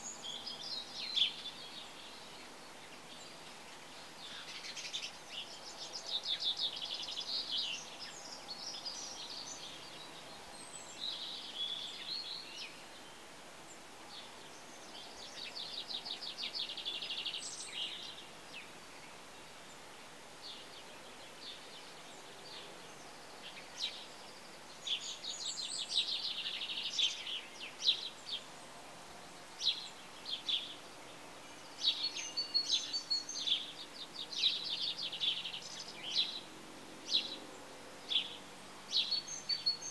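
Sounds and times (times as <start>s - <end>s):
faint background hiss: 0.0s - 39.9s
songbirds trilling: 0.0s - 39.9s.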